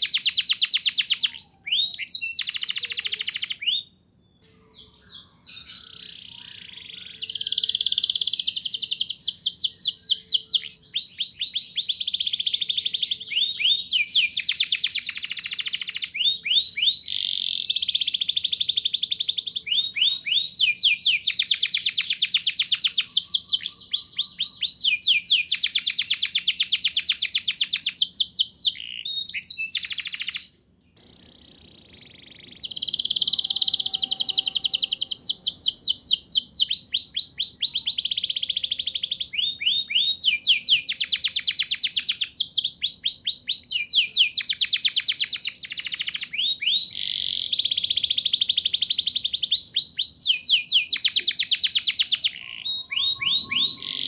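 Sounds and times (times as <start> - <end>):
canary singing rolled trills: 0.0 - 54.0.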